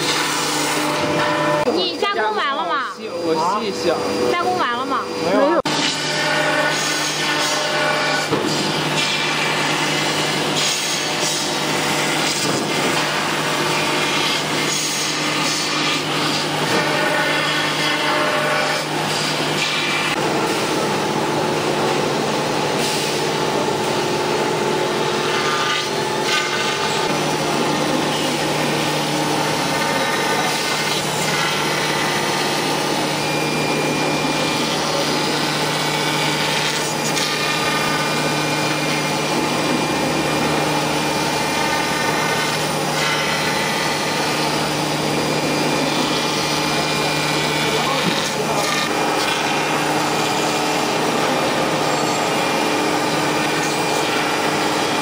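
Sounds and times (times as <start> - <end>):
router spindle humming: 0.0 - 55.0
end mill rasping through foam: 5.2 - 55.0.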